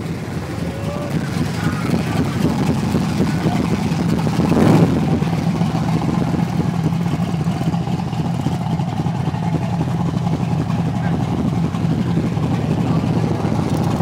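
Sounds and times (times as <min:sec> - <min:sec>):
car engine running and revving: 0:00.0 - 0:14.0.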